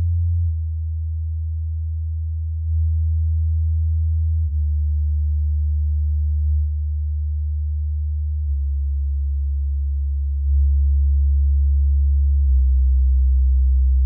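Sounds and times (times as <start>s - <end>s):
low electronic sine tones: 0.0s - 14.0s.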